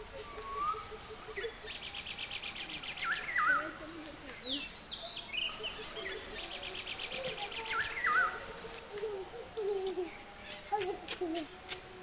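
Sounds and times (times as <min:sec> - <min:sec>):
low wavering bird calls: 0:00.0 - 0:12.0.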